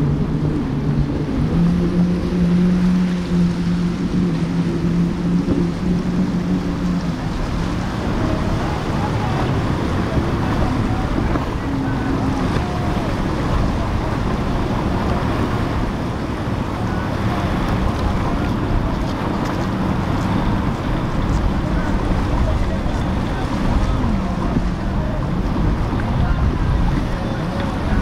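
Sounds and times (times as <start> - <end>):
powerboat engines humming: 0.0 - 28.0
splashing waves: 0.0 - 28.0
wind on microphone: 0.0 - 28.0.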